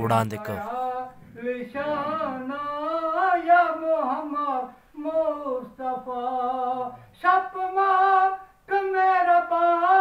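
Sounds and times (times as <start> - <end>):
man chanting unaccompanied: 0.0 - 10.0.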